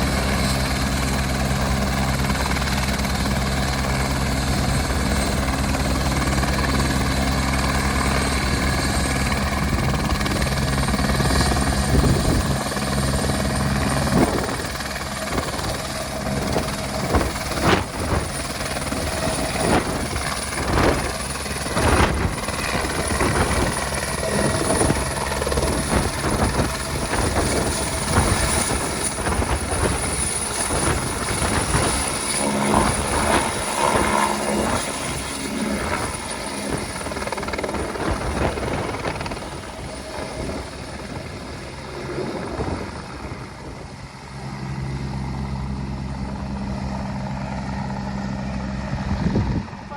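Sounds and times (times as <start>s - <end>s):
helicopter rotor and turbine: 0.0s - 49.9s.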